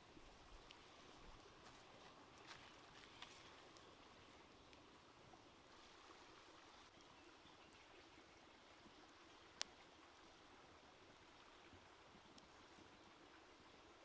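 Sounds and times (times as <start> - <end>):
faint stream hiss: 0.0 - 14.0.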